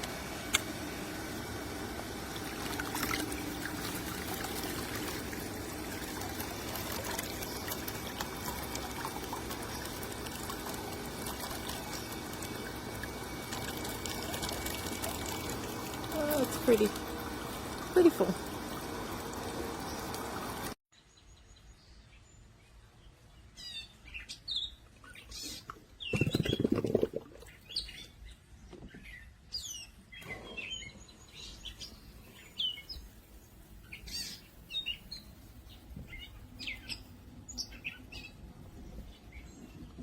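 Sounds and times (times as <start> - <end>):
small birds chirping: 2.4 - 40.0.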